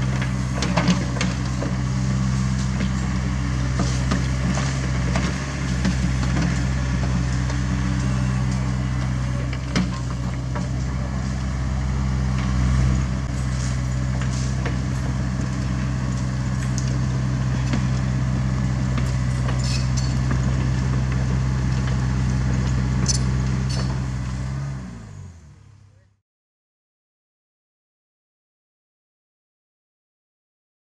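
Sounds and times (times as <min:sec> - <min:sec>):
diesel excavator engine running: 0:00.0 - 0:26.0.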